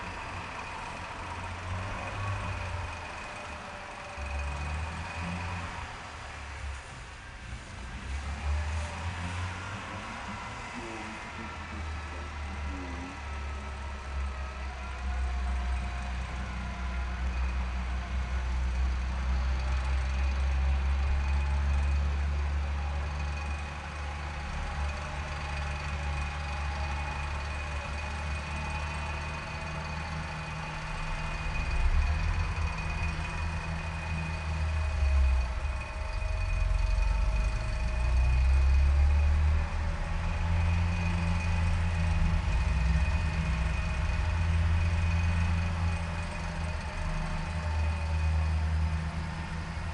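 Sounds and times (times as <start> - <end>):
steady high whine: 0.0 - 49.9
engine revving: 7.6 - 49.9.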